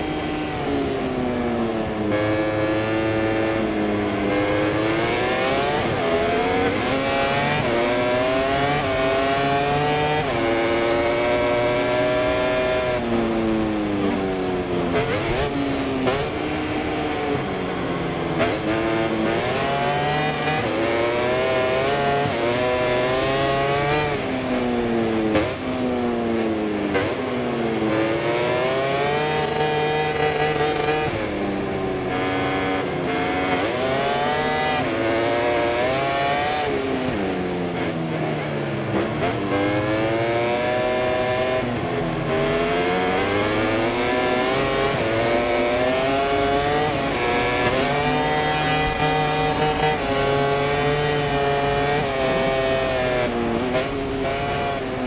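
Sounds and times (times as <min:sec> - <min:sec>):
racing motorcycle engine: 0:00.0 - 0:55.0.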